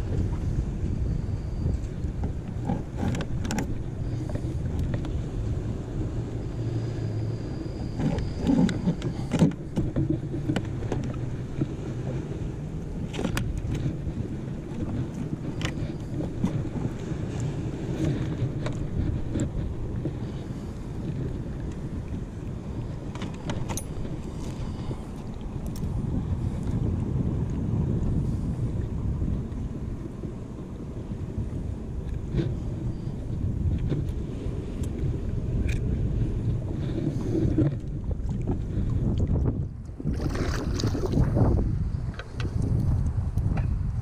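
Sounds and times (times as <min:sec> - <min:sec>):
water moving around kayak: 0:00.0 - 0:44.0
wind rumble on microphone: 0:00.0 - 0:44.0.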